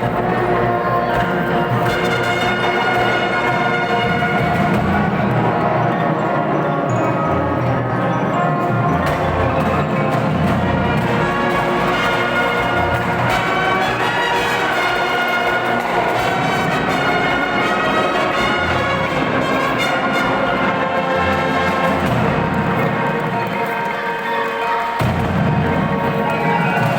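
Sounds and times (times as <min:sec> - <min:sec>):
marching band playing: 0:00.0 - 0:26.9.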